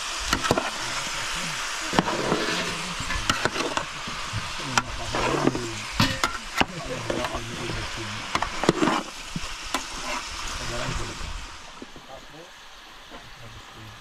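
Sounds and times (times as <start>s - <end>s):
food sizzling: 0.0s - 14.0s.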